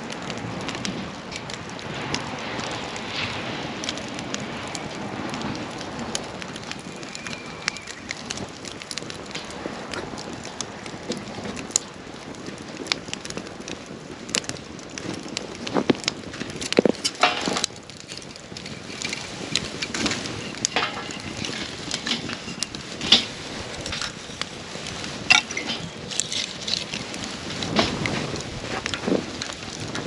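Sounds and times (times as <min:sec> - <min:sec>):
campfire crackling and popping: 0:00.0 - 0:30.0
fire hissing: 0:00.1 - 0:30.0.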